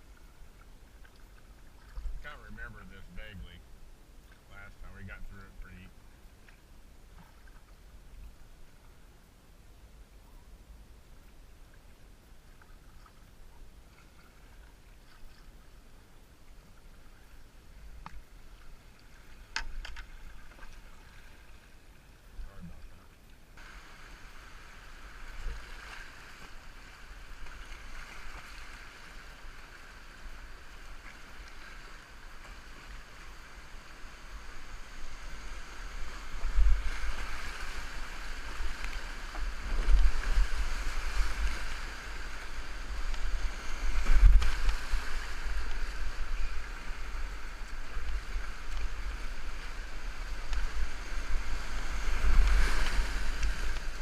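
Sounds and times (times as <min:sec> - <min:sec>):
muffled river water rushing: 0:00.0 - 0:54.0.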